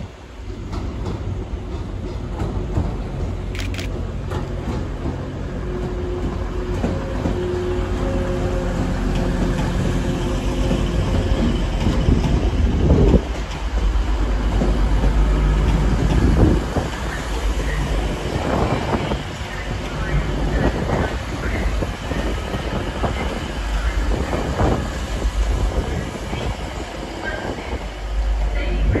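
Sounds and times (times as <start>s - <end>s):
diesel train engines rumbling: 0.0s - 29.0s
train wheels on rails: 0.0s - 29.0s.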